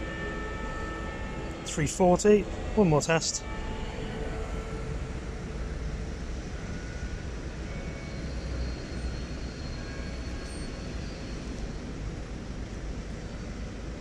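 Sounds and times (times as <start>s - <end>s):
low rumble of passing traffic: 0.0s - 14.0s.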